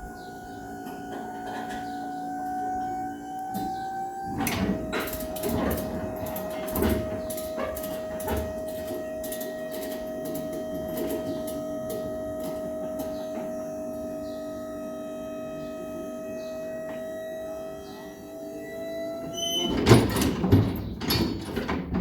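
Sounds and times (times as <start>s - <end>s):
printer machine whine: 0.0s - 21.9s.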